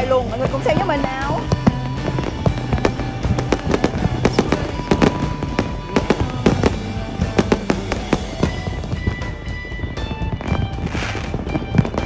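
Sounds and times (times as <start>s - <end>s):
background music: 0.0s - 12.0s
fireworks banging and crackling: 0.0s - 12.0s.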